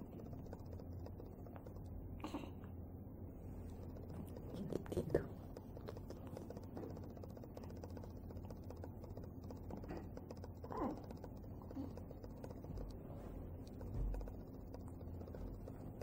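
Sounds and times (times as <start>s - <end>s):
faint clicks: 0.0s - 2.8s, 3.6s - 16.0s
low steady hum: 0.0s - 16.0s.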